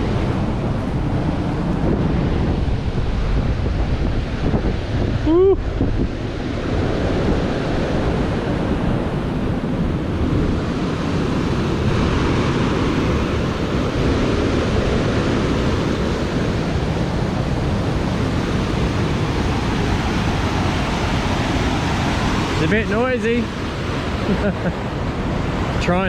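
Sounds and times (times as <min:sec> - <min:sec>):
creek rushing: 0:04.4 - 0:26.0.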